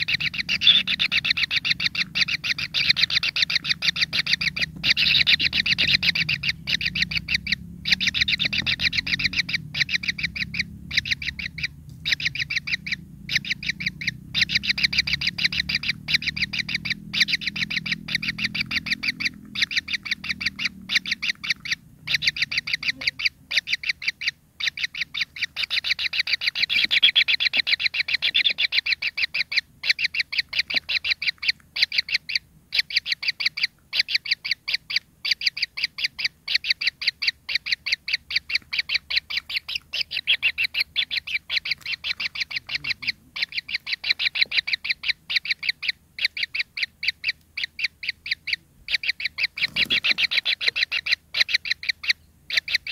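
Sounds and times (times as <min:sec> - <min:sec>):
bird nestlings begging calls: 0:00.0 - 0:52.9.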